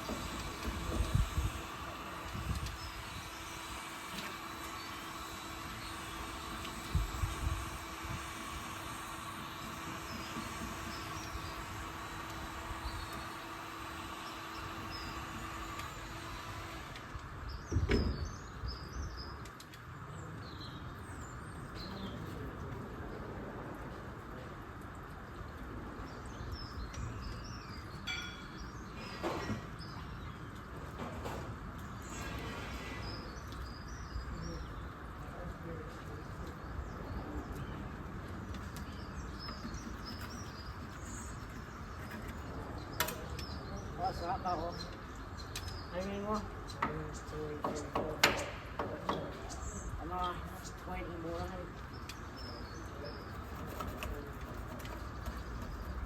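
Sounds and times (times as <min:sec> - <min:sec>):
birds chirping: 0:00.0 - 0:22.9, 0:25.1 - 0:56.0
steady background hum: 0:00.0 - 0:56.0.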